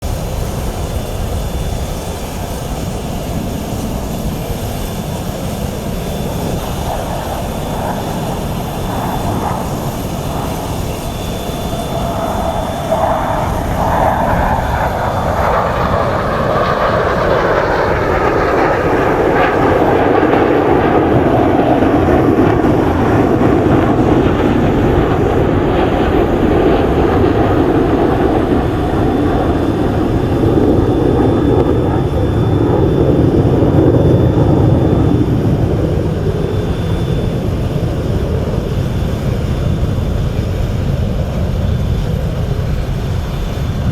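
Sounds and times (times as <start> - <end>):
jet engines roaring: 0.0 - 43.9.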